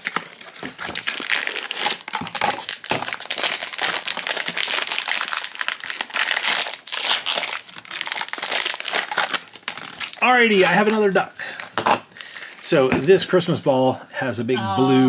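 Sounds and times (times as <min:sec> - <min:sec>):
foil and cardboard packaging crinkling: 0:00.0 - 0:12.8.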